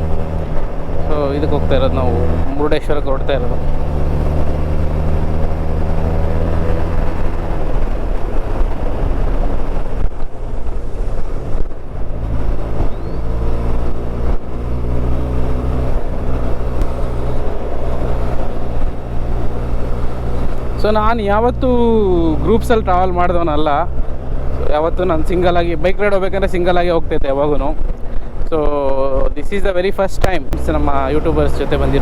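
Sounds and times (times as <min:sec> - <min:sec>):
motorcycle engine running: 0:00.0 - 0:28.5, 0:30.3 - 0:32.0
wind and road noise: 0:00.0 - 0:32.0.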